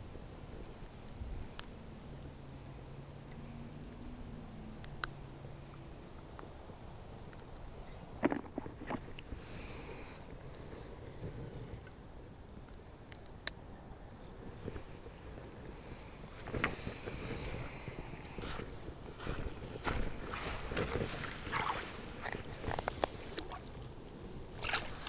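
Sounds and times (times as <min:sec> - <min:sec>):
high-pitched insect chorus: 0:00.0 - 0:25.0
riverside ambience: 0:00.0 - 0:25.0.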